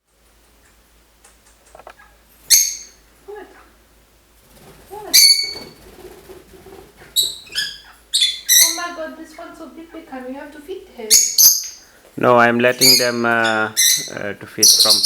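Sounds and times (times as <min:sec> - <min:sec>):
lovebirds chirping: 0:00.6 - 0:15.0.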